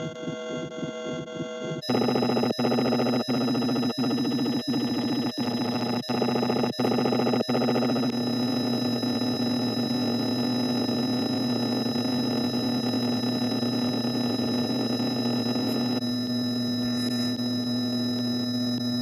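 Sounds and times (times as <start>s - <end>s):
grainy electronic buzzing: 0.0s - 19.0s.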